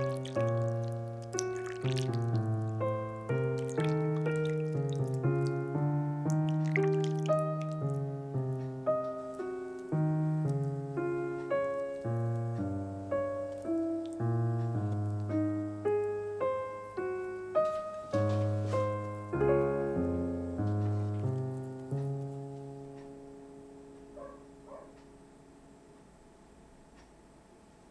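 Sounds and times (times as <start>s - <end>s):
slow gentle piano music: 0.0s - 27.9s.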